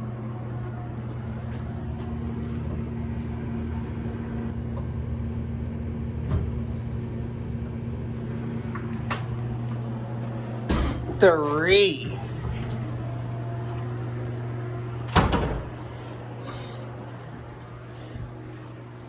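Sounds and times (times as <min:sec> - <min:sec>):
automatic door operator humming: 0:00.0 - 0:19.0.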